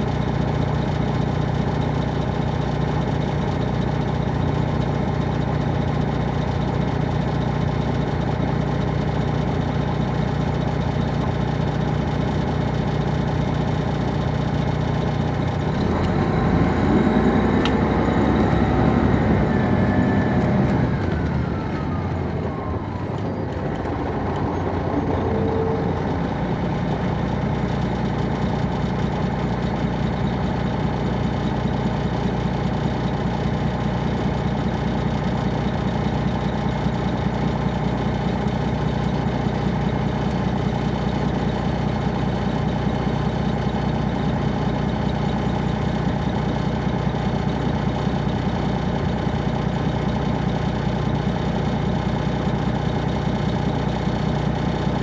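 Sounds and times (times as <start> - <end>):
diesel bus engine idling: 0.0 - 55.0.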